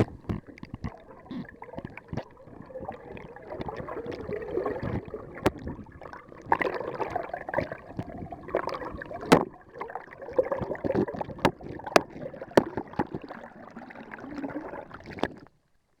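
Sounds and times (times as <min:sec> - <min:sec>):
stream water gurgling: 0:00.0 - 0:15.5.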